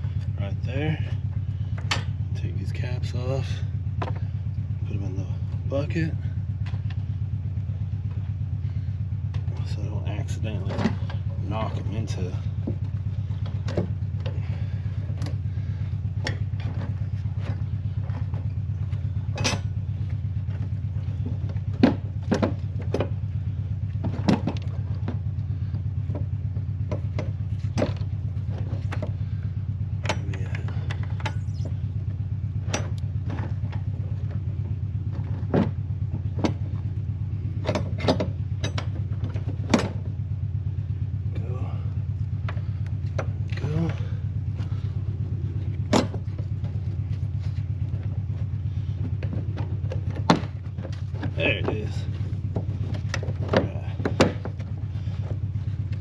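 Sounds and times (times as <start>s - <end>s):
low pulsing machine hum: 0.0s - 56.0s.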